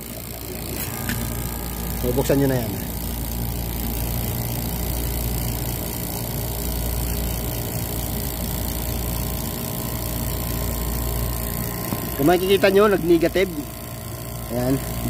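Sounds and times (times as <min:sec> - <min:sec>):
vacuum pump motor humming: 0:00.0 - 0:15.0.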